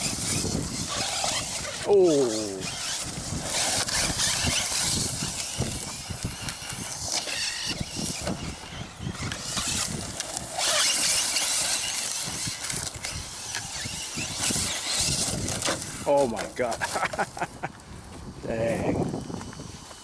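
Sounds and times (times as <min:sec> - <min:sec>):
tyres churning dirt and gravel: 0:00.0 - 0:20.0.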